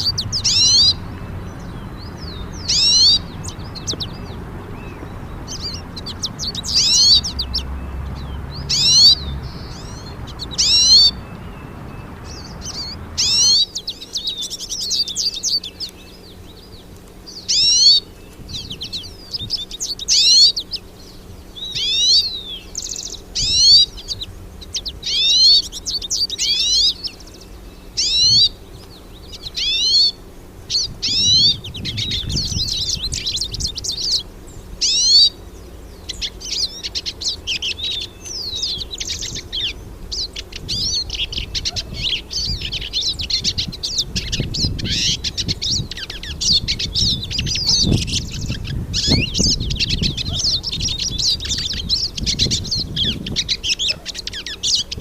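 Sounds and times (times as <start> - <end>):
bird twittering: 0.0 - 55.0
low background rumble: 0.0 - 55.0.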